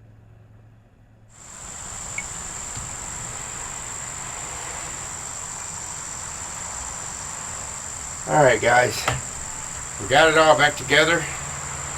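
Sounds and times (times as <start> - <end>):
high-pitched insect chorus: 1.4 - 11.9
soft hiss: 1.4 - 11.9.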